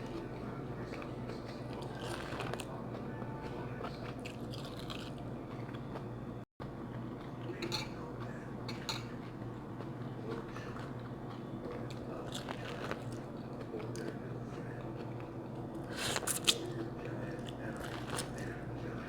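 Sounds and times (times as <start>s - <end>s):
chewing and biting: 0.0s - 6.2s, 7.0s - 19.0s
steady low hum: 0.0s - 19.0s.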